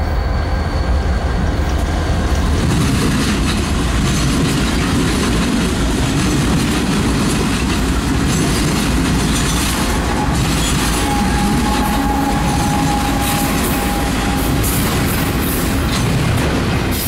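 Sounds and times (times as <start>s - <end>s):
diesel locomotives rumbling past: 0.0s - 17.0s.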